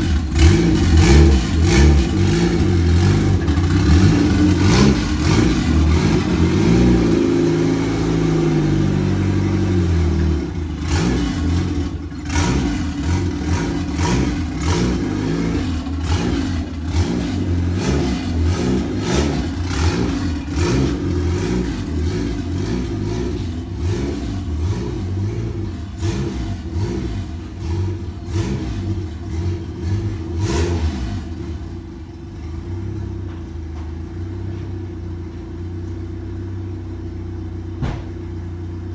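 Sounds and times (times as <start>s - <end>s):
engine clicks and clatter: 0.0s - 7.2s, 10.1s - 35.6s
car engine running: 0.0s - 38.9s.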